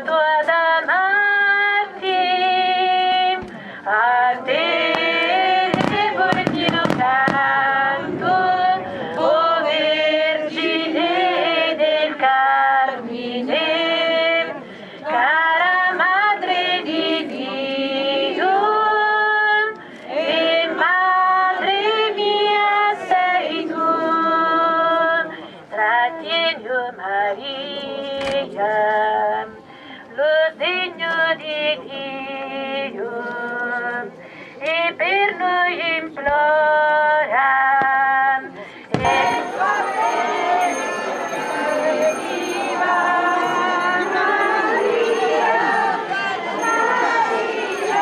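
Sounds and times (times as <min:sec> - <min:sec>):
voices singing a hymn: 0:00.0 - 0:48.0.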